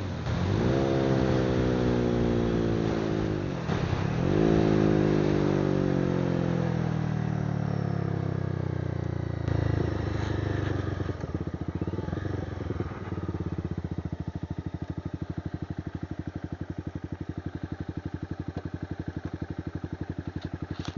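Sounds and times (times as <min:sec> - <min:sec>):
motorcycle engine idling: 0:00.0 - 0:20.9
motorcycle engine revs falling: 0:00.0 - 0:20.9.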